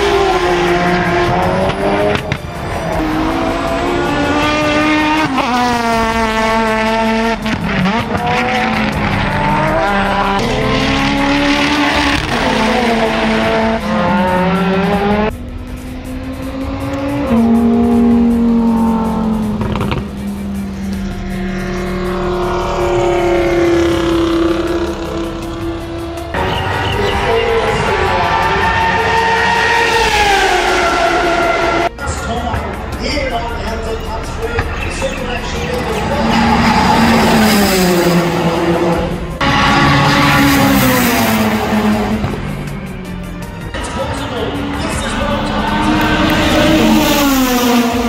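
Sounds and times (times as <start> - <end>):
race car engines revving past: 0.0 - 48.0.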